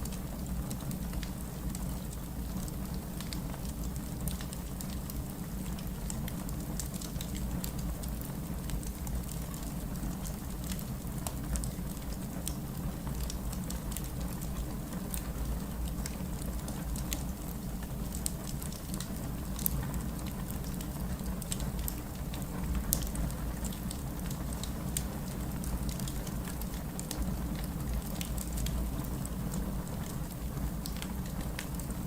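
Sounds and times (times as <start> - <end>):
campfire burning: 0.0 - 32.0
fire crackles and pops: 0.0 - 32.0.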